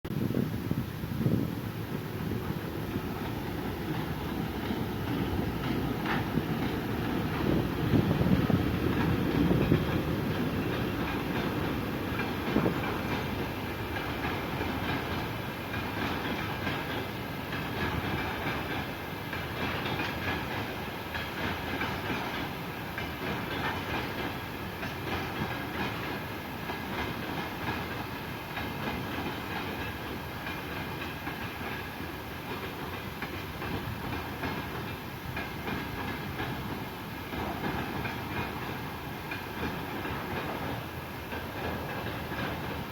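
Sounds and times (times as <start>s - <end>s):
train wheels clattering on rail: 0.1s - 42.9s.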